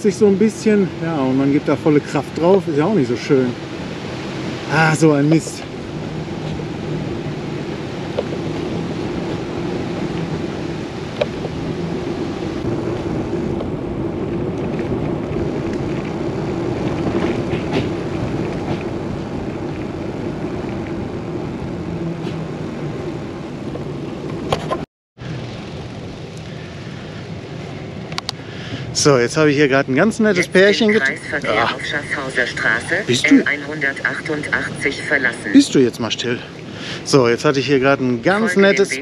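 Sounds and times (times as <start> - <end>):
road and wind rushing: 0.0 - 39.0.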